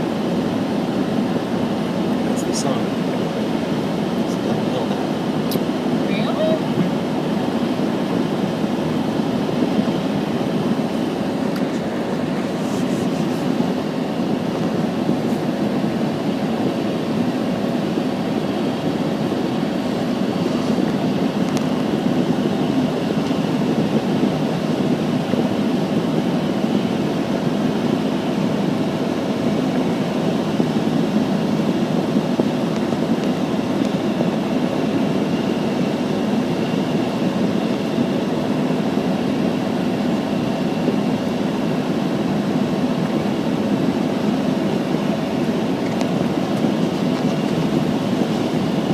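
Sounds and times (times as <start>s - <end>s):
vehicle engine and road rumble: 0.0s - 48.9s.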